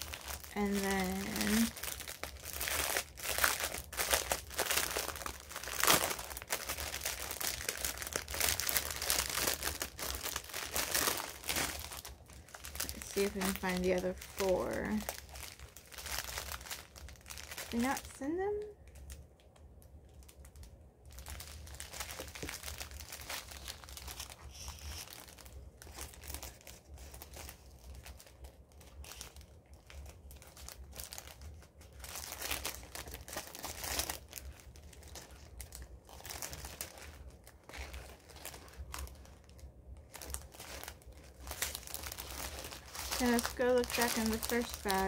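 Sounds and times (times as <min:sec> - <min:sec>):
plastic bags crinkling: 0:00.0 - 0:45.0.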